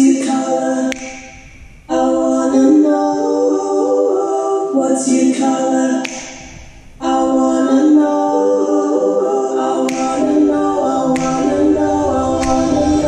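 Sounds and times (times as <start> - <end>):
a cappella vocal harmony: 0.0 - 13.0.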